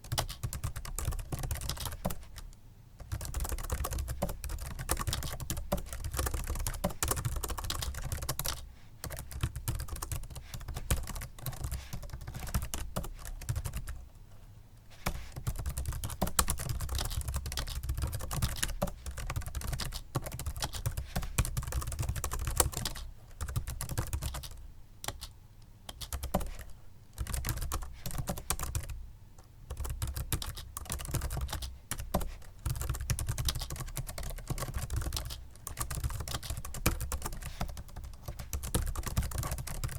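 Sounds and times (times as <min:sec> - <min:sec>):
fast typing on keyboard: 0:00.0 - 0:14.0, 0:15.0 - 0:25.3, 0:25.9 - 0:29.0, 0:29.7 - 0:39.9.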